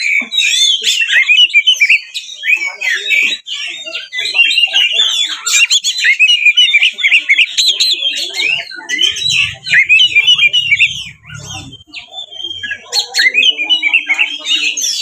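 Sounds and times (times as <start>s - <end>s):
songbird singing whistles and trills: 0.0s - 15.0s.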